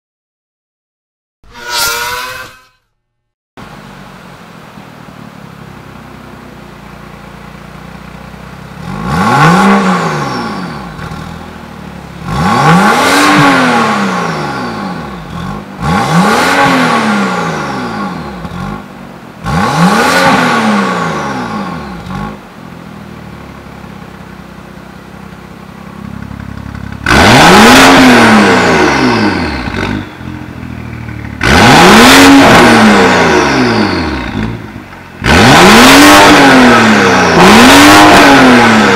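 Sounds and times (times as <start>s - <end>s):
car engine idling and revving: 3.6s - 38.9s.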